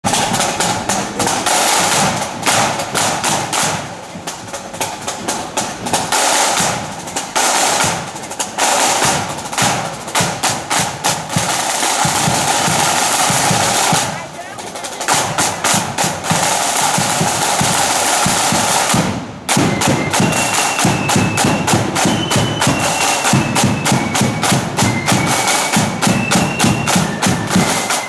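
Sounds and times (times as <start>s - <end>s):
snare drums rolling: 0.0s - 28.0s.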